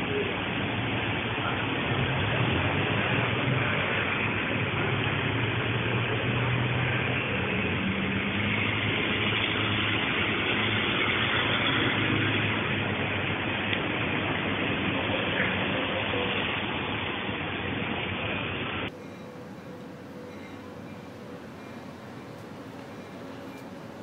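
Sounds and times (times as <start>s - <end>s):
rushing background noise: 0.0s - 24.0s.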